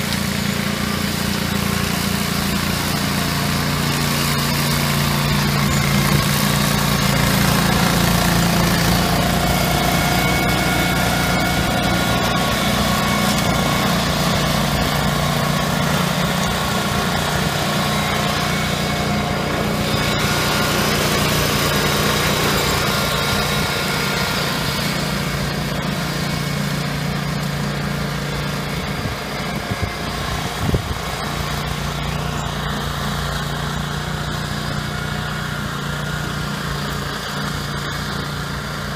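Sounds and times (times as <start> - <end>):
brush cutter engine running: 0.0 - 38.9.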